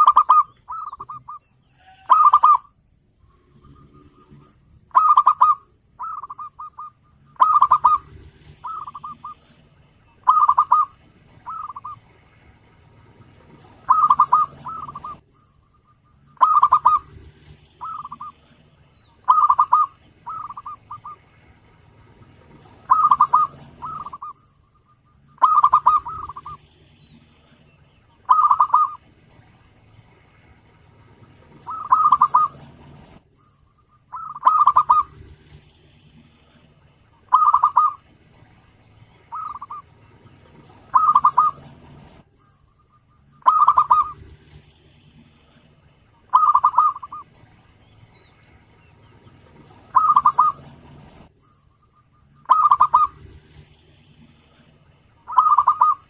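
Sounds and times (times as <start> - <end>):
dove cooing: 0.0 - 12.2, 13.0 - 29.5, 31.2 - 38.3, 39.0 - 42.2, 42.8 - 47.5, 48.1 - 51.3, 51.9 - 56.0.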